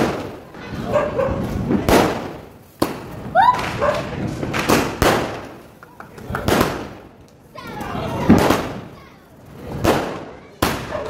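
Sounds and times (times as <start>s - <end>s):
firecrackers and fireworks banging: 0.0s - 11.0s.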